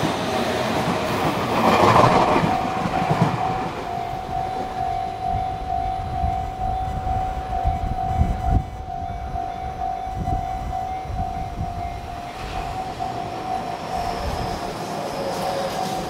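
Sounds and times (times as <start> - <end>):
oncoming train: 0.0 - 16.0
level crossing alarm ringing: 2.1 - 16.0.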